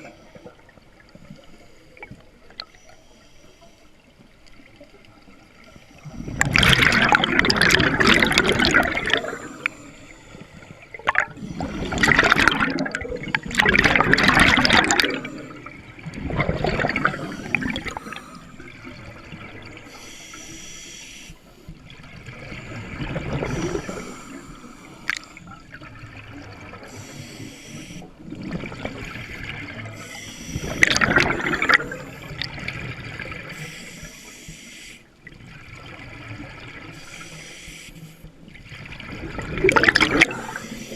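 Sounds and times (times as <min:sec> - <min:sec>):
exhaled bubbles gurgling: 0:04.6 - 0:20.8, 0:21.7 - 0:34.4, 0:35.2 - 0:37.6, 0:38.3 - 0:40.9.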